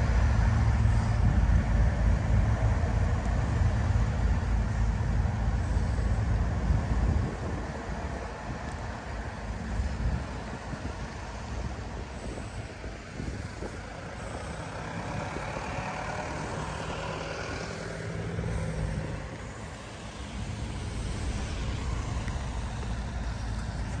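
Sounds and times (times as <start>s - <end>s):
truck engine drone passing: 0.0s - 10.3s, 11.1s - 24.0s
engine rumble with tyre noise: 0.0s - 24.0s.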